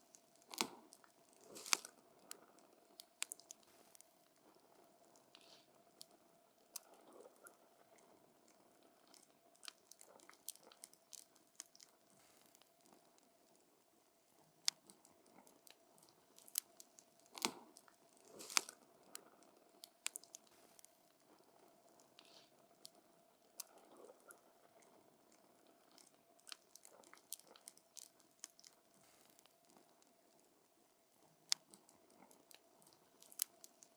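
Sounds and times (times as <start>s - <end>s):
sharp snaps and pops: 0.0s - 33.9s.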